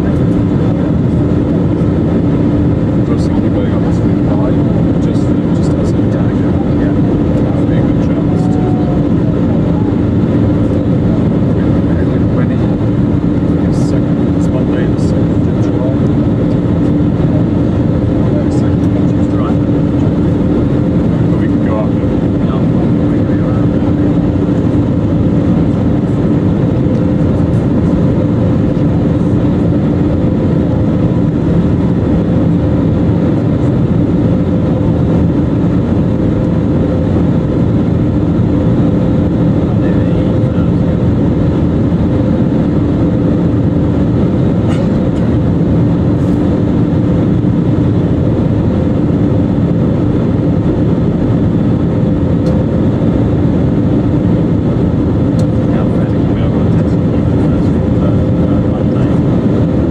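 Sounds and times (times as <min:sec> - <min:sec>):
airplane cabin engine drone: 0:00.0 - 0:59.9
constant low hum: 0:00.0 - 0:59.9.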